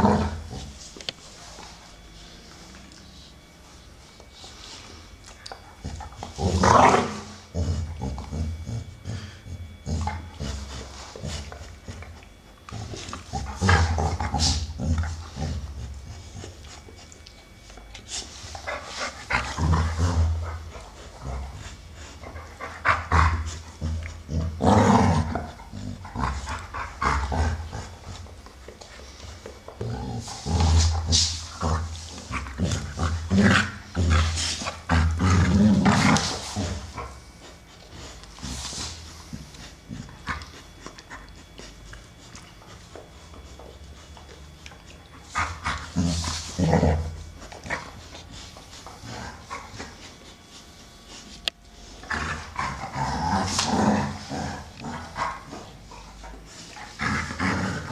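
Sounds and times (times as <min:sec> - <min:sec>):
dogs growling and grunting: 0:00.0 - 0:00.8, 0:05.5 - 0:16.9, 0:18.6 - 0:42.6, 0:44.2 - 0:50.5, 0:52.0 - 0:57.9.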